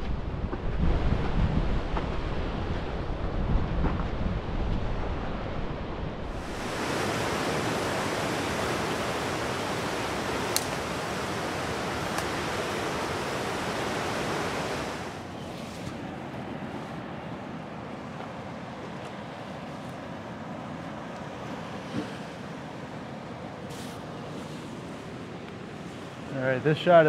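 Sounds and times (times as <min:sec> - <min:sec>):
ocean surf on rocks: 0:00.1 - 0:27.0.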